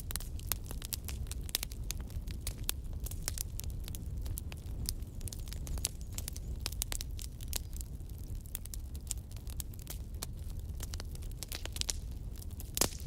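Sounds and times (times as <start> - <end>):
fire popping: 0.0 - 13.0
flames rumbling: 0.0 - 13.0
wood fire crackling: 0.0 - 13.0.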